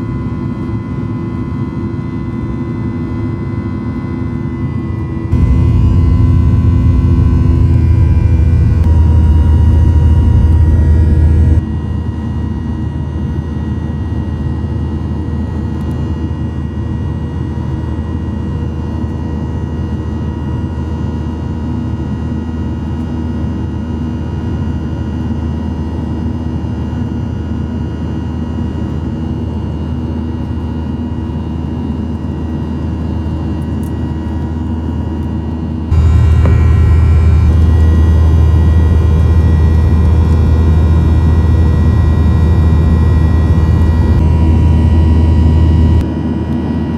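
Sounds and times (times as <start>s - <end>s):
jet engine rumble in cabin: 0.0s - 46.9s.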